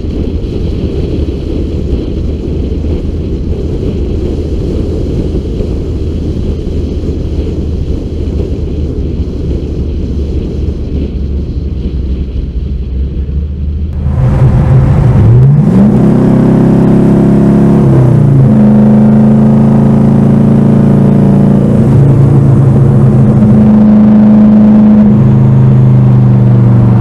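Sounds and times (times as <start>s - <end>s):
car engine rumbling: 0.0s - 27.0s
wind buffeting microphone: 0.0s - 27.0s.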